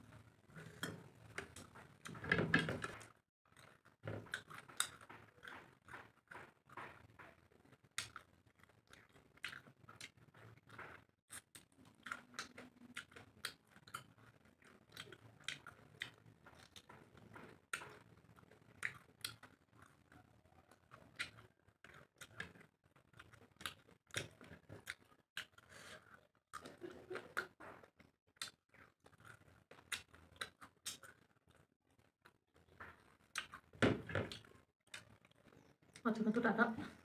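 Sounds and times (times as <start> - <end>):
chewing and mouth smacks: 2.9 - 36.0.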